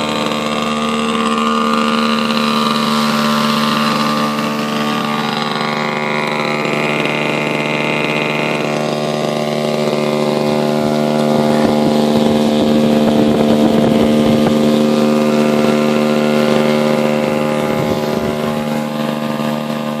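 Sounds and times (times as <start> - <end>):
model plane engine idling: 0.0 - 20.0.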